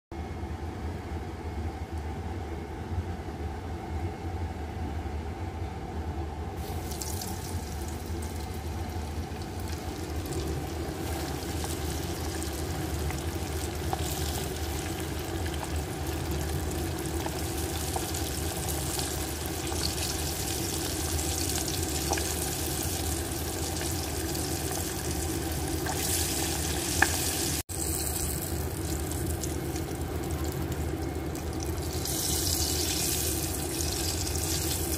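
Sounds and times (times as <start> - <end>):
chicken deep-frying in oil: 6.6 - 34.9.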